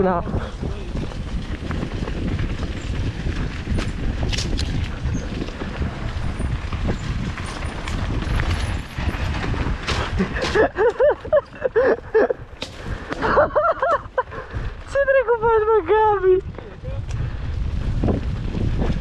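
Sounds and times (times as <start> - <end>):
bike tyres rumbling on dirt: 0.0 - 19.0.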